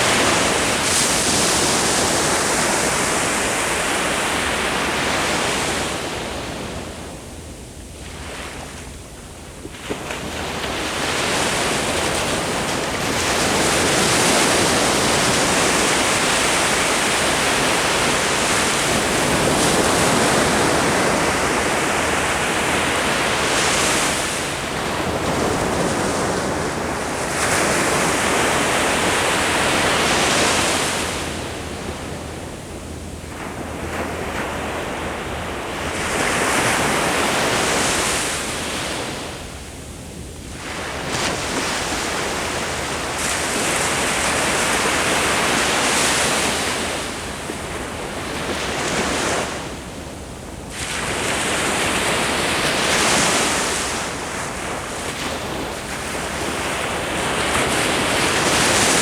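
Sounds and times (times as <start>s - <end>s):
ocean waves breaking: 9.8s - 39.6s, 40.5s - 59.0s.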